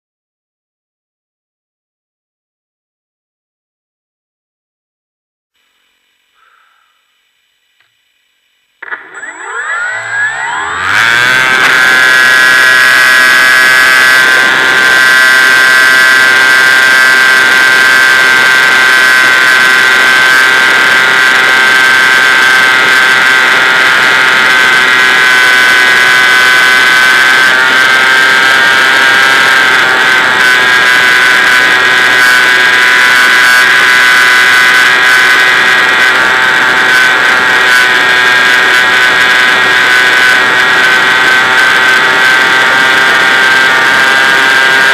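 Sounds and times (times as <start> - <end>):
model plane motor whine: 8.8 - 44.9.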